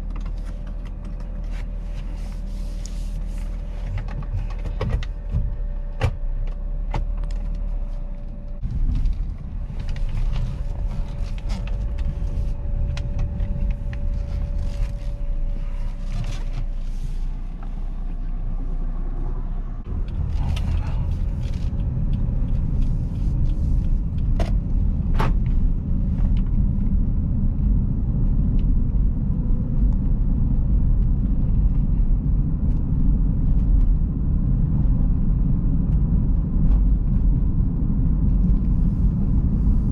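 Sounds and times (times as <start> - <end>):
car engine and road noise: 0.0 - 39.9
faint whine: 0.0 - 39.9.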